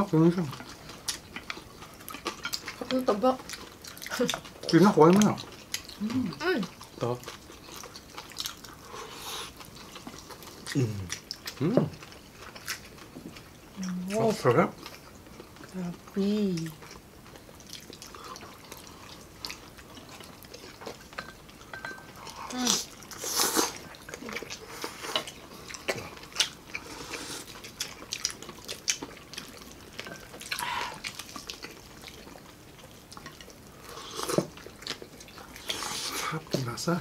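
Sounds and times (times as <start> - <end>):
people crunching and chewing: 0.0 - 37.0.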